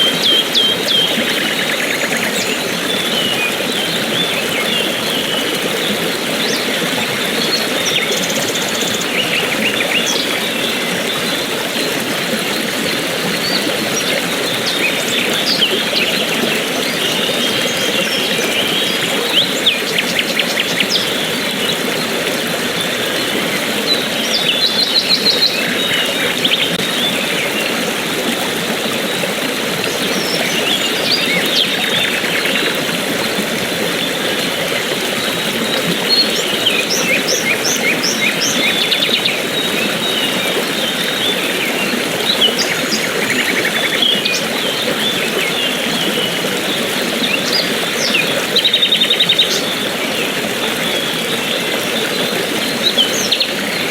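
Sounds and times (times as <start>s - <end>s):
flowing water rushing: 0.0s - 53.9s.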